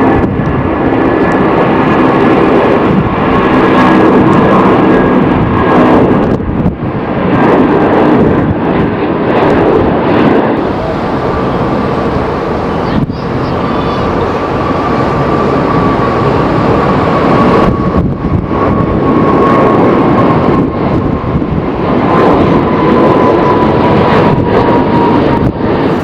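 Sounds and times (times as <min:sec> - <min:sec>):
jet engines rushing and whining: 0:00.0 - 0:26.0
wind buffeting microphone: 0:00.0 - 0:26.0.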